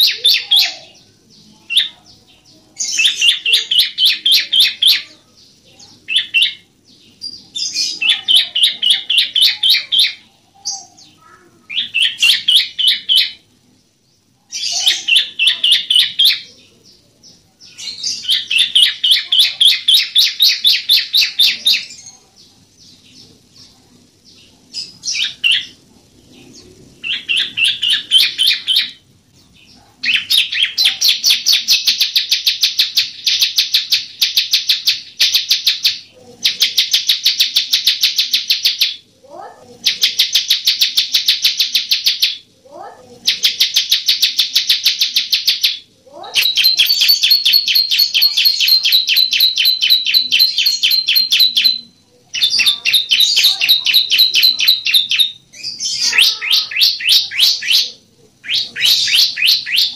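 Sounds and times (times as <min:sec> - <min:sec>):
bird singing high chipping notes: 0:00.0 - 0:39.2, 0:43.3 - 0:59.9.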